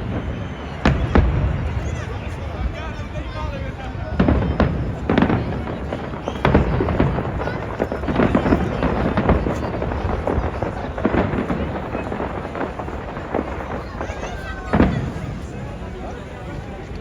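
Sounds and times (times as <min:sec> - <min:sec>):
fireworks bangs and booms: 0:00.0 - 0:17.0.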